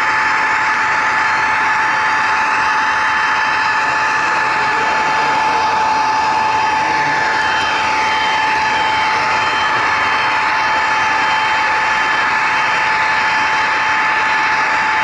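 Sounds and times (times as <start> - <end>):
electric motor and gear whine: 0.0 - 15.0.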